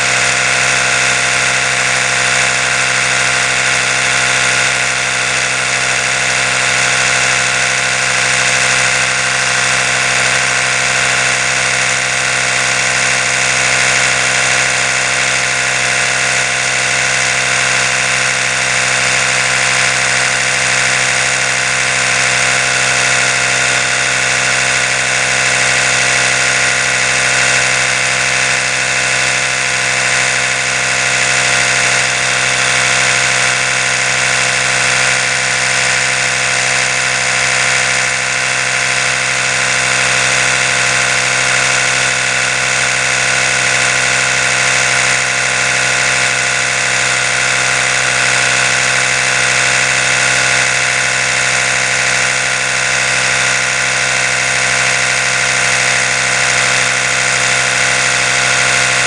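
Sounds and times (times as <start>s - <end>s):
electric toothbrush buzzing: 0.0s - 59.0s.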